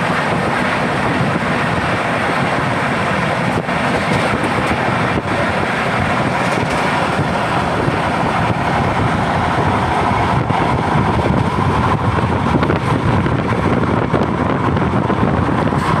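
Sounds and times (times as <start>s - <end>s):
passenger train running at speed: 0.0s - 16.0s.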